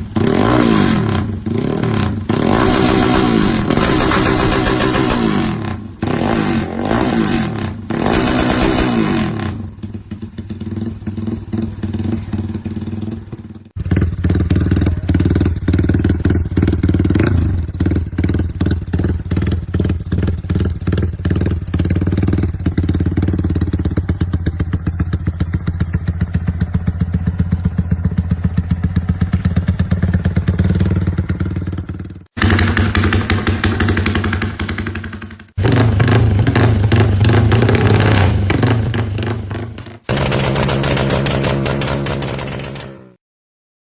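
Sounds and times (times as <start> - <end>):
motorcycle engine revving and idling: 0.0 - 43.2.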